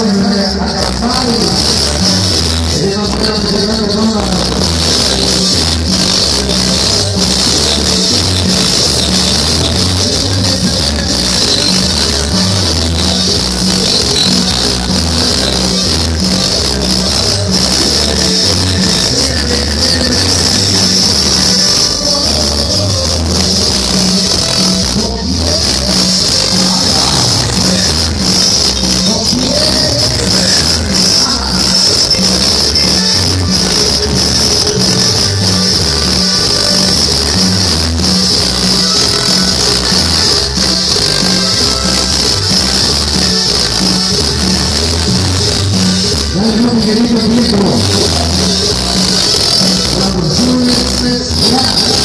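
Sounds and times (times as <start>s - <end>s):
loud dance music: 0.0s - 52.0s.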